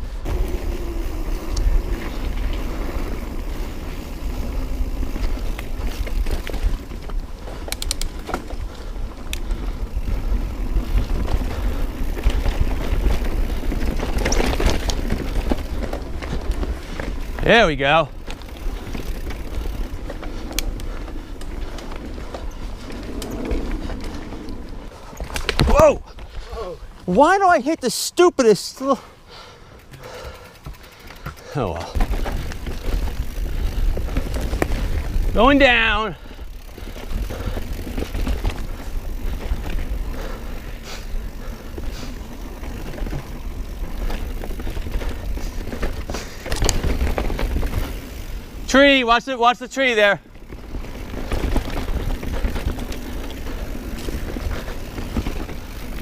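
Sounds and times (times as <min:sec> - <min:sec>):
bike clicks and rattles: 0:00.0 - 0:28.0, 0:28.6 - 0:56.0
mountain bike rolling on dirt: 0:00.0 - 0:56.0.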